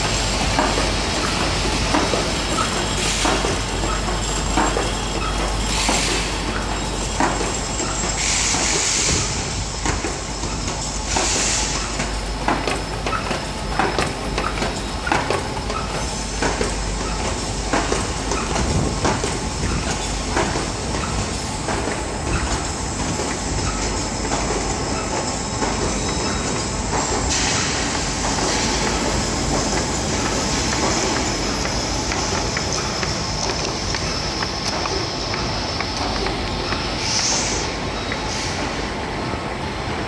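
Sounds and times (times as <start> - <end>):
sharp mechanical clicks and knocks: 0.0 - 36.9
machine hiss: 0.0 - 39.5
machine belts and rollers clattering: 0.0 - 40.0.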